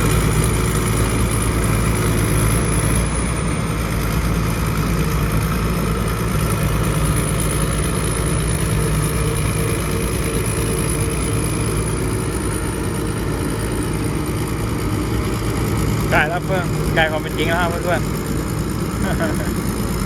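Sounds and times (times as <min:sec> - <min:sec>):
combine harvester engine running: 0:00.0 - 0:20.0.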